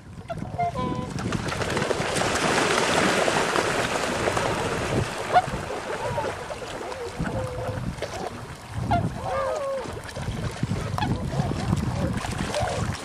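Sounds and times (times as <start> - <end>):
wind and water rushing: 0.0 - 13.0.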